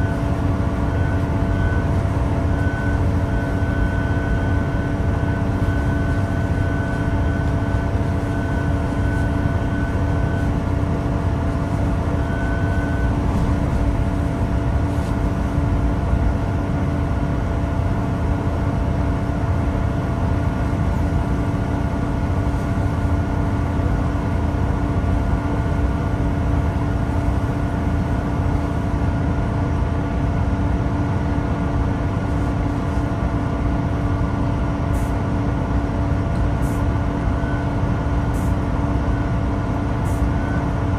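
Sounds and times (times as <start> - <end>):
train diesel engine rumble: 0.0 - 40.9.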